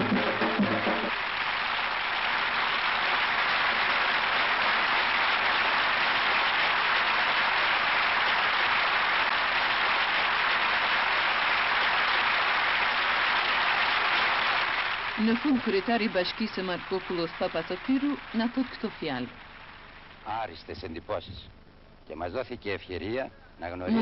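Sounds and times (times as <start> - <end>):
audience applauding: 0.0 - 21.0, 23.8 - 24.0.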